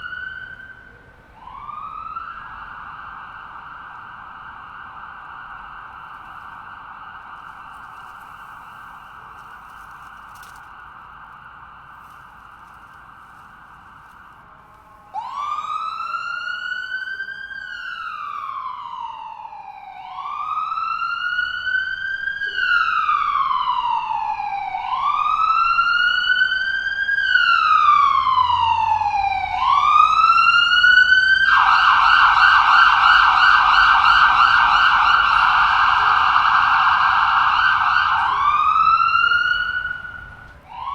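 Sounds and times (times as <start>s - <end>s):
ambulance siren: 0.0s - 40.9s.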